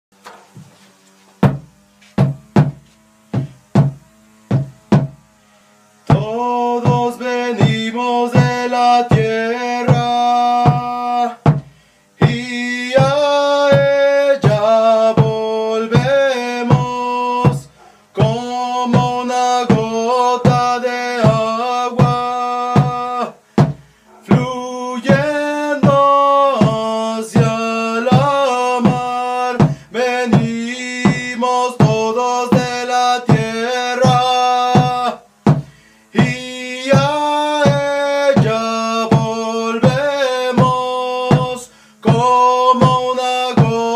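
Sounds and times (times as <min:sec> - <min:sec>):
hand drum beating: 0:01.4 - 0:05.3, 0:06.1 - 0:12.4, 0:13.0 - 0:43.9
man singing a chant: 0:06.0 - 0:43.9.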